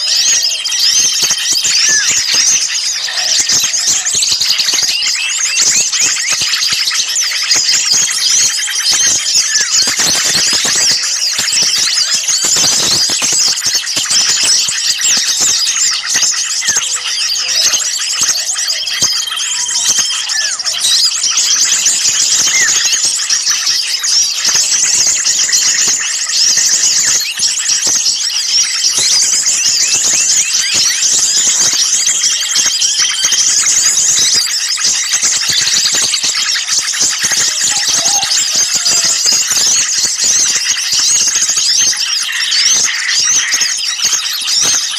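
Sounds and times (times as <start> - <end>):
held bird whistles: 0.0 - 44.9
small birds chirping: 0.0 - 44.9.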